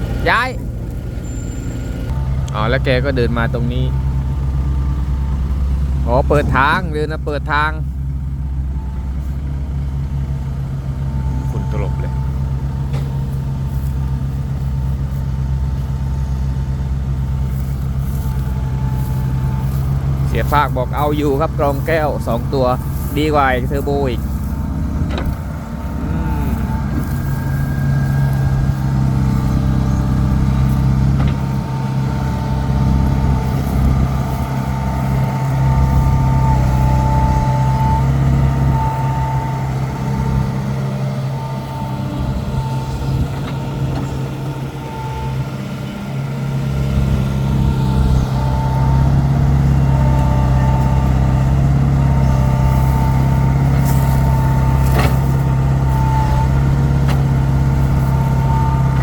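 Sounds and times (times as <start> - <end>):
heavy diesel engine with whine: 0.0 - 59.0.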